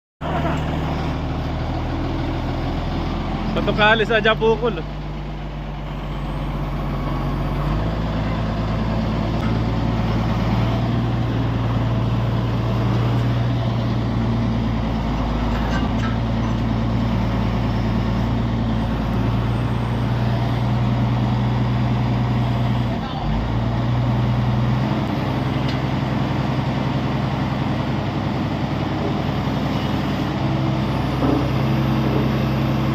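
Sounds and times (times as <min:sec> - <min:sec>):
diesel engine running under load: 0:00.2 - 0:32.9.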